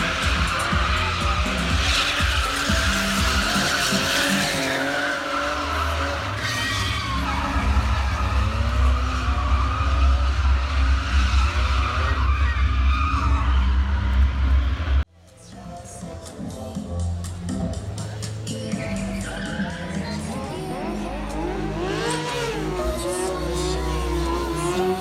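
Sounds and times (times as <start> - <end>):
tyres skidding: 0.0 - 15.1, 16.8 - 25.0
vehicle engines revving: 0.0 - 15.1, 16.8 - 25.0.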